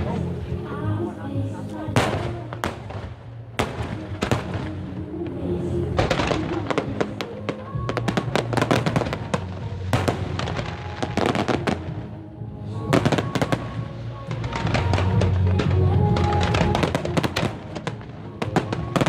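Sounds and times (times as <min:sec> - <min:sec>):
music playing: 0:00.0 - 0:19.0
fireworks bursting and crackling: 0:01.9 - 0:19.0.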